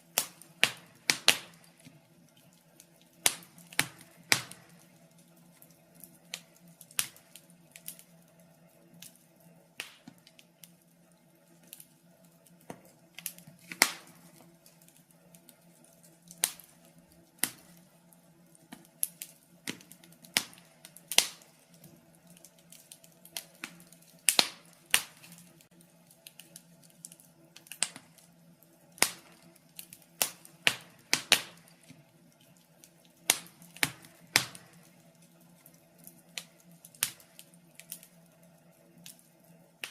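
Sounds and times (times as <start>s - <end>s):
burning wood popping: 0.0s - 39.9s
wood fire crackling: 0.0s - 39.9s.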